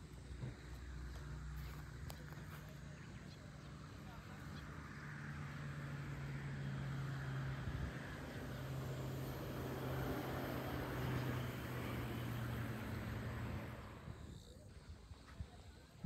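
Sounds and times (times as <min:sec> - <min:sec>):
engine humming: 0:00.0 - 0:14.6.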